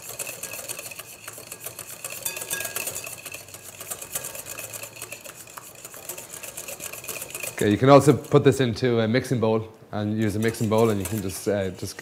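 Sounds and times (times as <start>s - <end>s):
whisk ticking against glass bowl: 0.0s - 8.7s, 10.2s - 12.0s.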